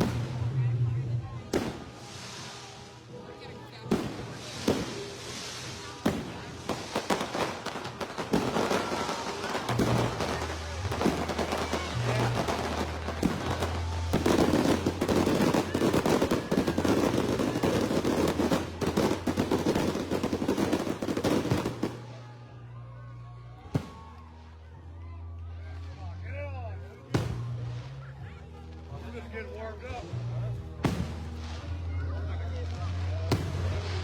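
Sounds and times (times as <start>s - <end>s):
fireworks bangs and crackles: 0.0s - 22.7s, 23.6s - 24.8s, 26.9s - 34.0s.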